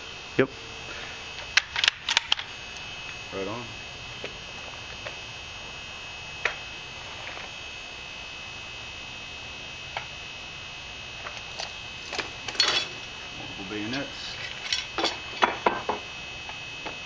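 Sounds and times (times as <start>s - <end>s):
high-pitched electrical hum: 0.0s - 17.0s.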